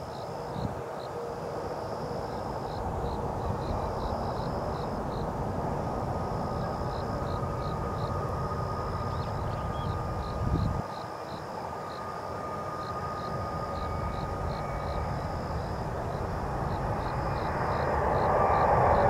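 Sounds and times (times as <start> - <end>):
insects chirping: 0.0 - 19.0
jet engines rumbling: 0.2 - 19.0
thin engine whine: 0.4 - 19.0.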